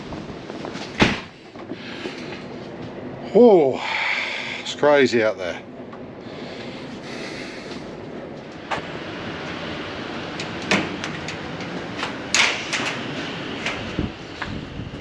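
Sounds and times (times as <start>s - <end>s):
storm wind blowing: 0.0s - 15.0s.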